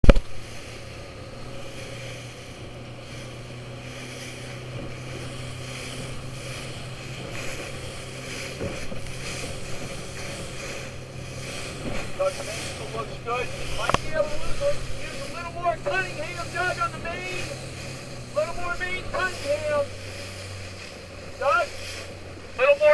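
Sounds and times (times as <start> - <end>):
outboard engine humming: 0.0 - 22.9
water noise: 0.0 - 22.9
wind: 0.0 - 22.9.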